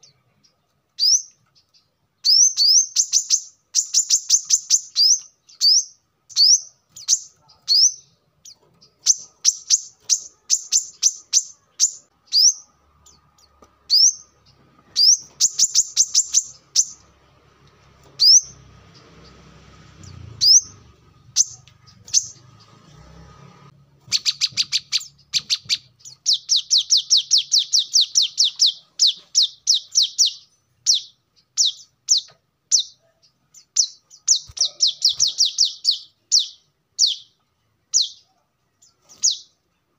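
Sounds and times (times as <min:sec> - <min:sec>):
bird high chirps: 0:00.0 - 0:17.2, 0:17.8 - 0:23.0, 0:24.0 - 0:39.9.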